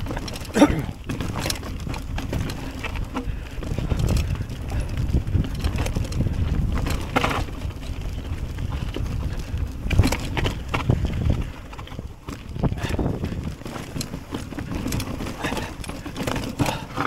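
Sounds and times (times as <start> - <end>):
bike rattling: 0.0 - 17.0
wind buffeting microphone: 0.0 - 17.0.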